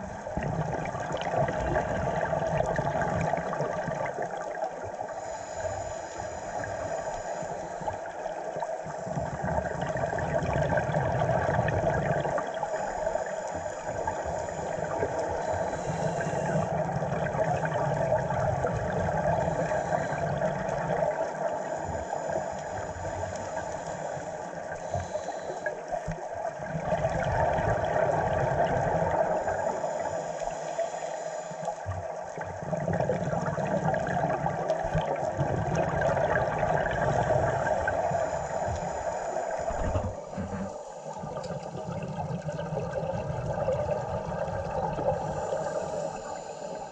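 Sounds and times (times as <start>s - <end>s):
exhaled bubbles rushing underwater: 0.0s - 46.9s
muffled hiss: 0.0s - 46.9s.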